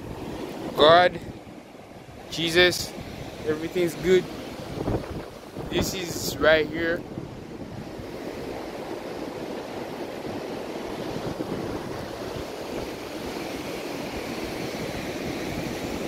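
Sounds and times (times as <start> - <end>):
rushing wind: 0.0 - 16.0
surf: 0.0 - 16.0
wind rumbling on microphone: 0.0 - 16.0.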